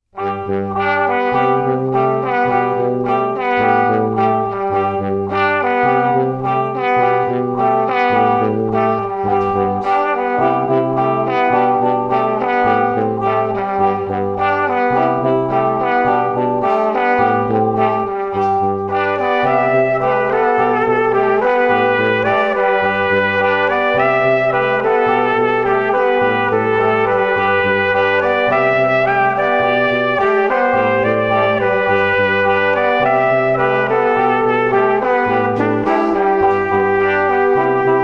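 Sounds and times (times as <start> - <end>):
instrumental music with bass line: 0.0 - 38.0.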